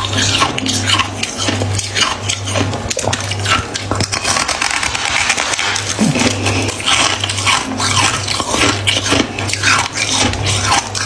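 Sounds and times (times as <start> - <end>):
crunching frost being chewed: 0.0 - 11.0.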